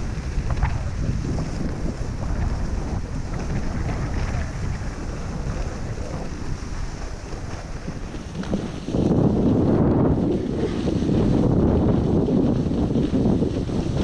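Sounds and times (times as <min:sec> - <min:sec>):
skis hissing over snow: 0:00.0 - 0:14.0
wind rushing over microphone: 0:00.0 - 0:14.0.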